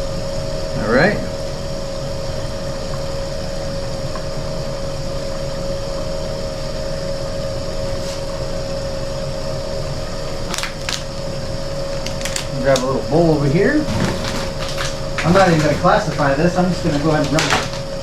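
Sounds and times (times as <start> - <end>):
electric water pump humming: 0.0 - 18.0.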